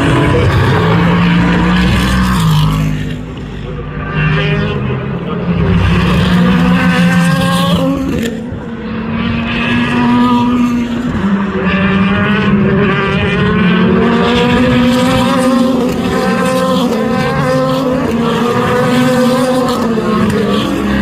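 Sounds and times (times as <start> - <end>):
race car engines at full throttle: 0.0 - 21.0.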